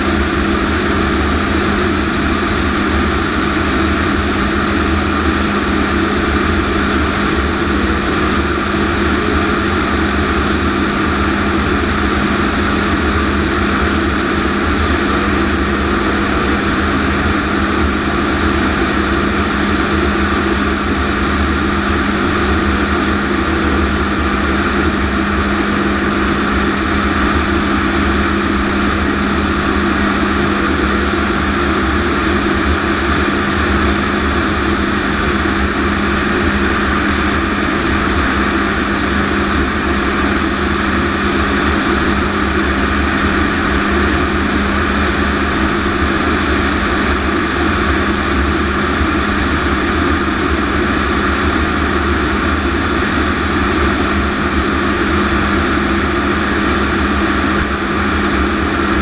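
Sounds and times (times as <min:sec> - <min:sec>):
constant hum: 0:00.0 - 0:59.0
jet engine drone in cockpit: 0:00.0 - 0:59.0.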